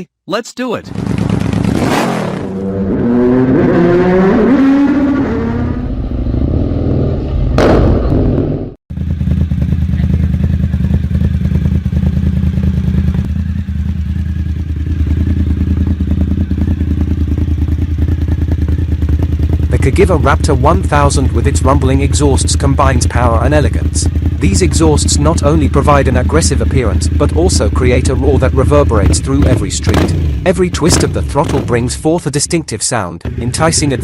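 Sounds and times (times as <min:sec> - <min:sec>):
motorcycle engine revving and idling: 0:00.9 - 0:32.4, 0:33.2 - 0:34.0.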